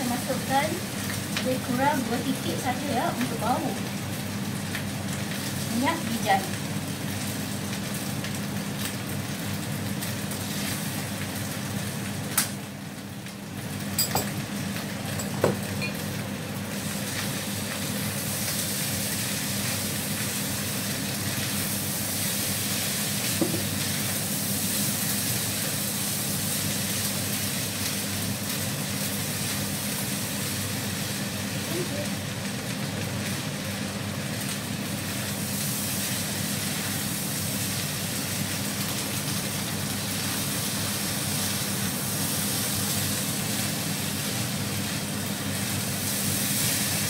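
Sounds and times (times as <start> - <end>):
rice sizzling in a wok: 0.0 - 47.0.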